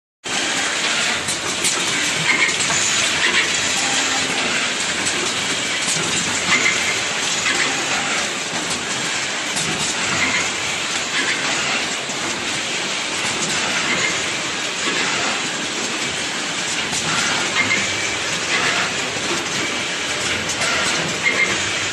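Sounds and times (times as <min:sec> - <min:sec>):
machine clatter and hiss: 0:00.3 - 0:21.9
sharp clicks of working heads: 0:00.8 - 0:21.9.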